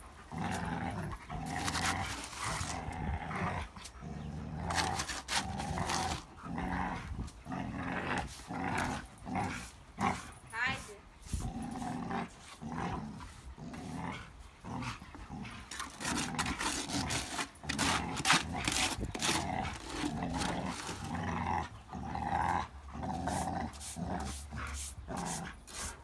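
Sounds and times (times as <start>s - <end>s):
dogs growling: 0.0s - 10.5s, 11.3s - 26.0s.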